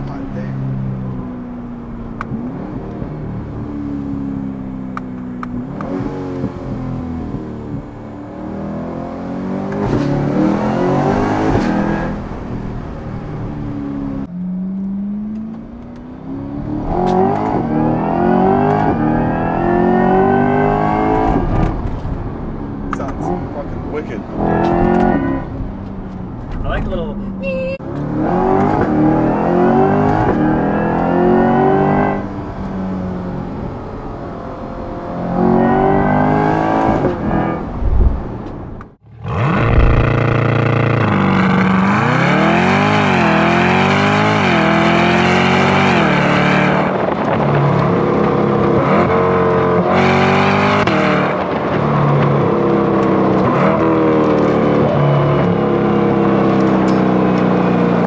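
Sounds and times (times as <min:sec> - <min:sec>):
sports car engine accelerating: 0:00.0 - 0:27.0, 0:27.8 - 0:58.0.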